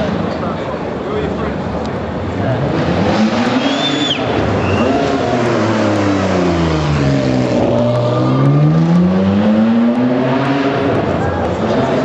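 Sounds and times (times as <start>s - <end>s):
sports car engine accelerating: 2.3s - 12.0s.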